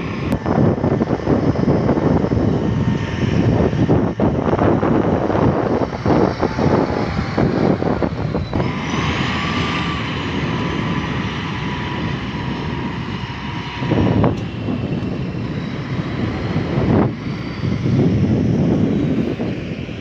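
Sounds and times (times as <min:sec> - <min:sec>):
heavy machine engine rumbling: 0:00.0 - 0:20.0.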